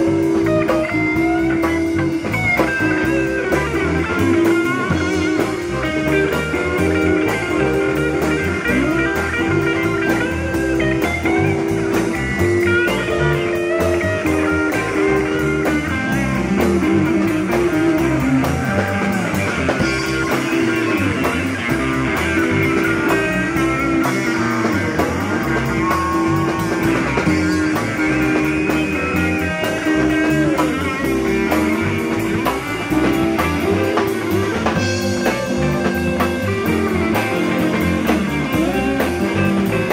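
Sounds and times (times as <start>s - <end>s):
lead guitar bending notes: 0.0s - 39.9s
low guitar riff: 0.0s - 39.9s.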